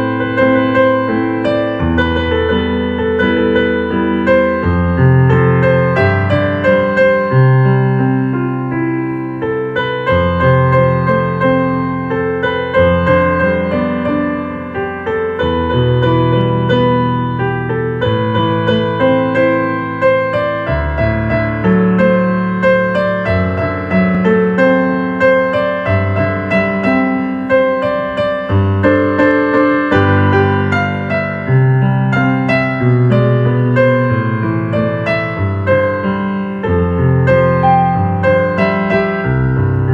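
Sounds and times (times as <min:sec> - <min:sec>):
ambient piano music: 0:00.0 - 0:39.9.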